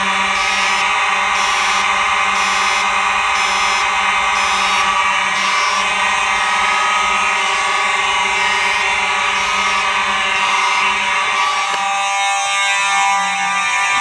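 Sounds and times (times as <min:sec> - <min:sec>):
fire alarm horn: 0:00.0 - 0:14.0
pulsing high-pitched tone: 0:00.0 - 0:14.0.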